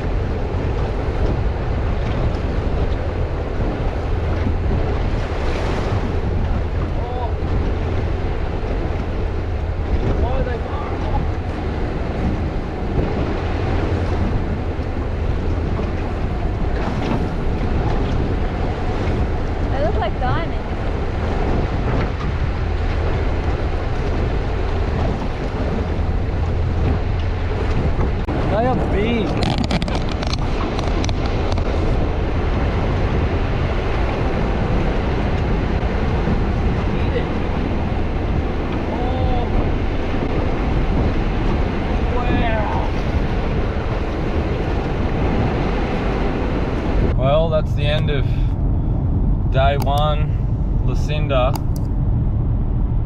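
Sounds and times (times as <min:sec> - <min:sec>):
rushing water: 0:00.0 - 0:52.3
boat engine rumble: 0:00.0 - 0:53.0
wind buffeting microphone: 0:00.0 - 0:53.0.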